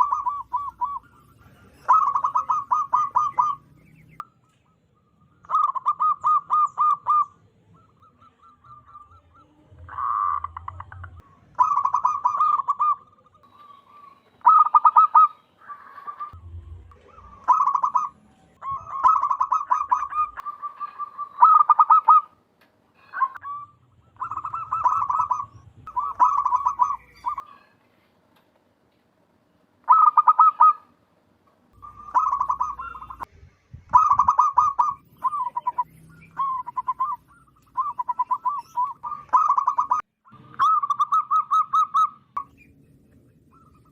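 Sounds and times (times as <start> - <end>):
dove cooing: 0.0 - 4.0, 5.4 - 16.4, 17.0 - 22.4, 23.0 - 27.7, 29.9 - 30.9, 31.8 - 33.3, 33.9 - 42.3.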